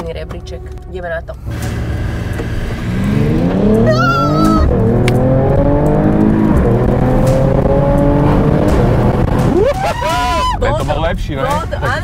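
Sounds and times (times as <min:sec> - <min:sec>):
car engine accelerating hard: 0:00.7 - 0:12.0.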